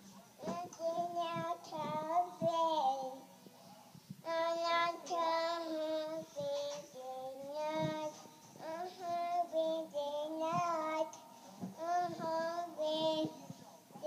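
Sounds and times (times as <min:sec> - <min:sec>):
toddler girl singing: 0:00.4 - 0:03.2, 0:04.2 - 0:13.6.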